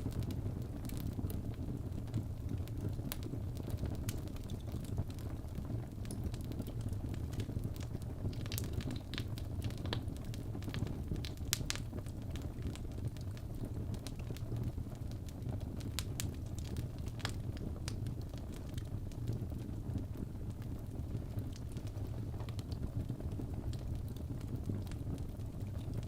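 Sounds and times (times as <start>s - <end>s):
fire flames rumbling: 0.0s - 26.0s
logs crackling and popping: 0.0s - 26.0s.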